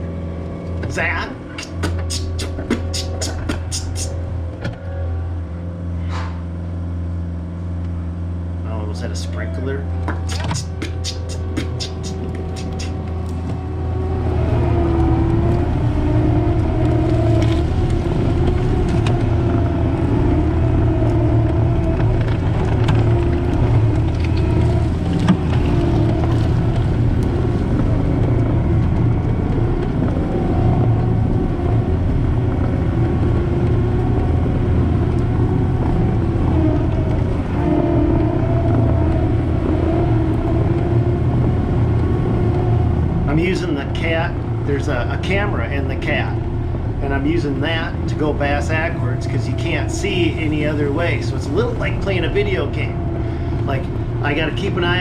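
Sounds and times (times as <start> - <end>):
diesel engine under load: 0.0 - 55.0
wavering whine: 0.0 - 55.0.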